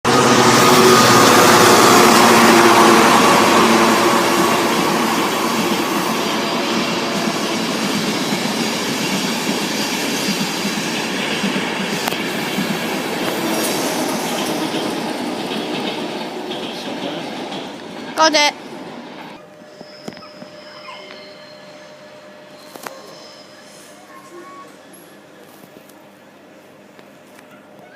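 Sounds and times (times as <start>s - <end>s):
train rattling over rails: 0.0s - 27.3s.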